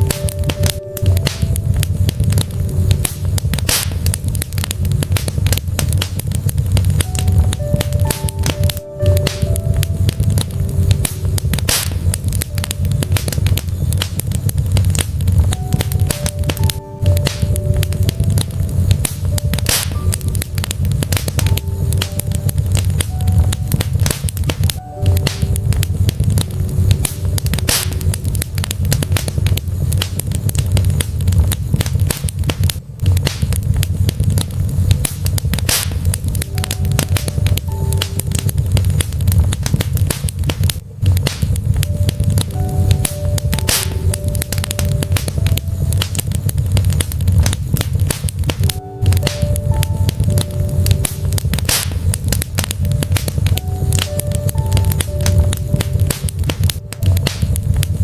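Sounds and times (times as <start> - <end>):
soft music with held notes: 0.0 - 31.0, 35.8 - 40.8, 41.6 - 58.0
low rumble of flames: 0.0 - 58.0
wood fire crackling and popping: 0.0 - 58.0.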